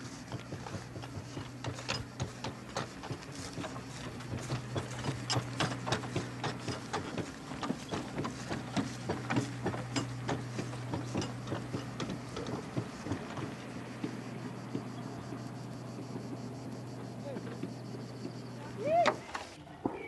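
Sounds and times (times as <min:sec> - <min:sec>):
steady low hum: 0:00.0 - 0:19.5
cart rattling and creaking: 0:00.0 - 0:20.0.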